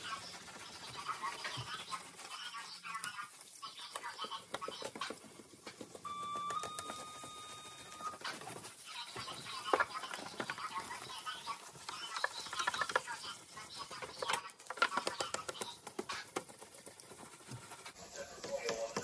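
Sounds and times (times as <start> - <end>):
wet sandpaper rubbing plastic: 0.0 - 19.0.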